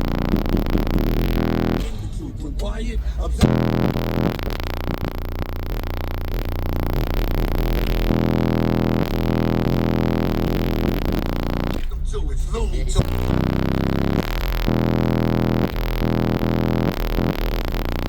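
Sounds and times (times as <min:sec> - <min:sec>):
bass-heavy electronic music: 0:00.0 - 0:18.0.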